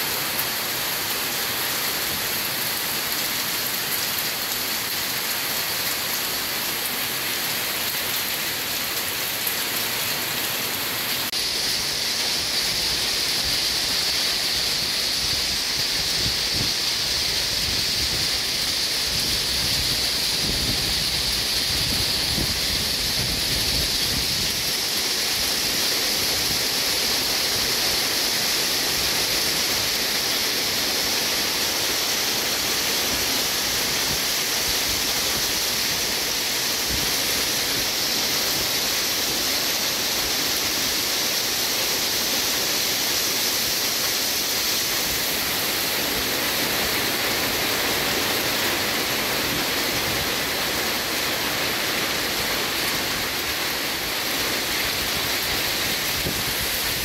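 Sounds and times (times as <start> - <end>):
heavy hail and rain on water: 0.0 - 57.0.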